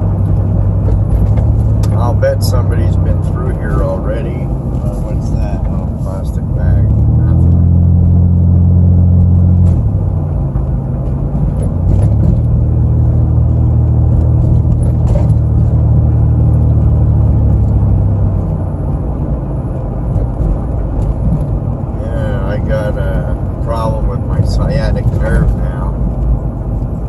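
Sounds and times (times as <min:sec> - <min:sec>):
road noise: 0:00.0 - 0:27.0
vehicle engine droning: 0:00.0 - 0:27.0.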